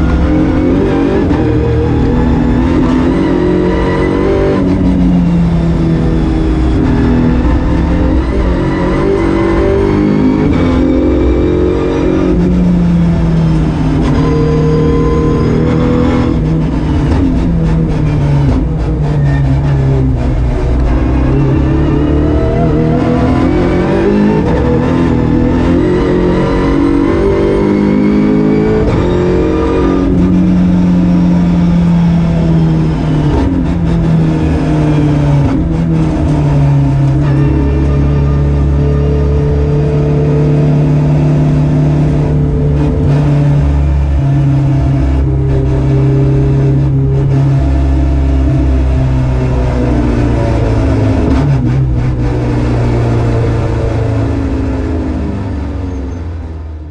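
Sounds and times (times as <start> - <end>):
race car engine: 0.0 - 56.9.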